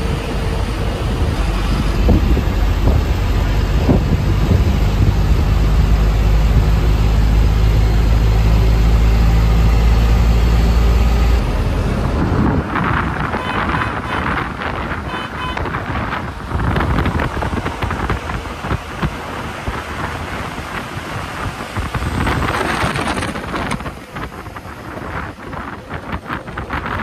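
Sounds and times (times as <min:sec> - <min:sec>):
bus engine and road rumble: 0:00.0 - 0:27.0
wind noise: 0:00.0 - 0:27.0.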